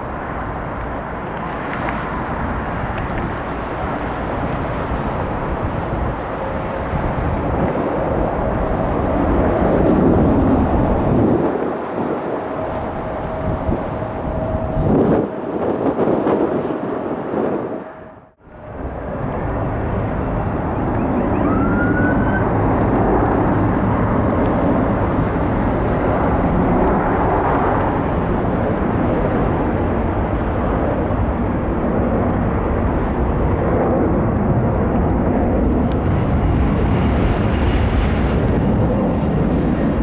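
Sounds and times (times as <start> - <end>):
jet engine noise: 0.0 - 40.0
wind buffeting microphone: 0.0 - 40.0.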